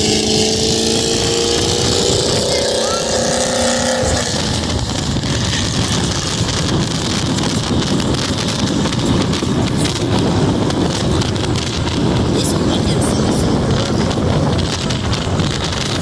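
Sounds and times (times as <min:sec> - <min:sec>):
road noise inside car: 0:00.0 - 0:16.0
wind buffeting microphone: 0:00.0 - 0:16.0.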